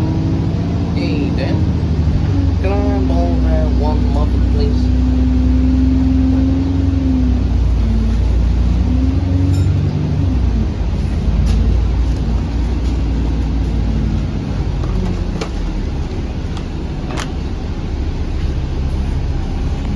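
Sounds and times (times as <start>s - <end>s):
bus engine rumble: 0.0s - 19.9s.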